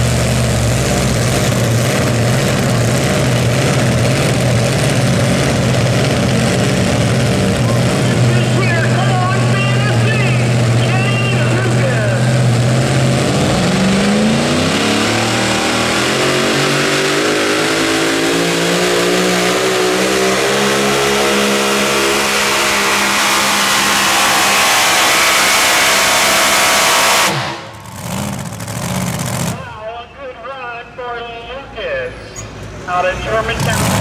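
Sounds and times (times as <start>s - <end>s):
truck engine at full throttle: 0.0s - 34.0s.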